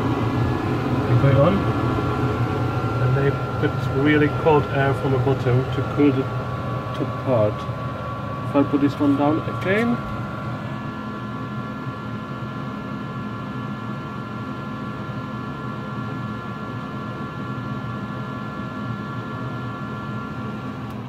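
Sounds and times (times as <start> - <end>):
electric vent fans whining: 0.0 - 21.0.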